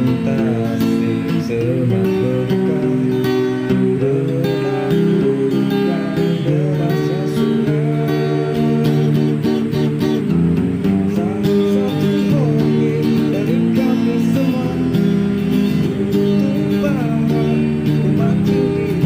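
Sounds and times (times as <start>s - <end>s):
guitar music: 0.0s - 19.0s.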